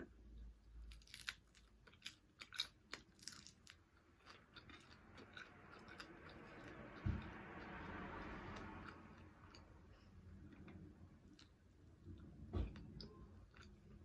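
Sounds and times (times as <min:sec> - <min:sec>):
mouth chewing with crunches: 0:00.8 - 0:14.0.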